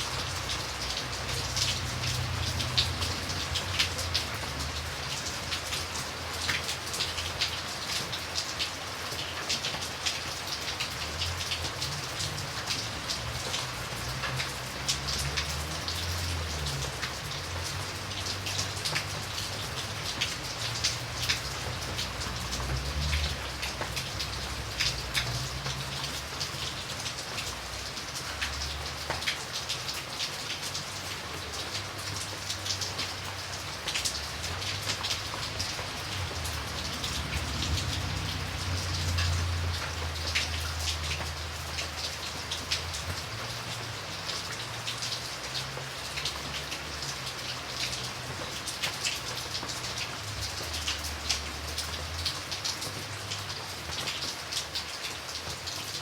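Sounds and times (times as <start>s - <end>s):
rain drops ticking on a surface: 0.0s - 56.0s.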